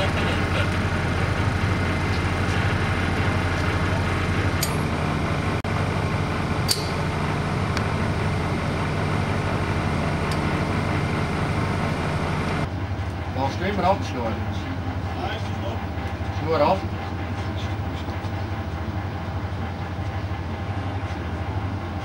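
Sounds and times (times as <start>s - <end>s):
heavy machinery droning: 0.0s - 22.0s.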